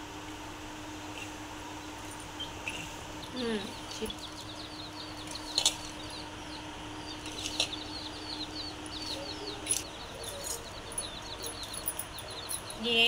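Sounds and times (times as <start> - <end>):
small birds chirping: 1.0 - 13.0.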